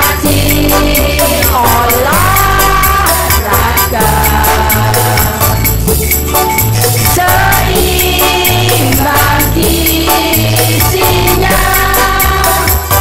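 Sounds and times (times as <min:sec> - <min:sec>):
women singing in unison: 0:00.0 - 0:05.7, 0:07.1 - 0:13.0
backing track with bass beat: 0:00.0 - 0:13.0.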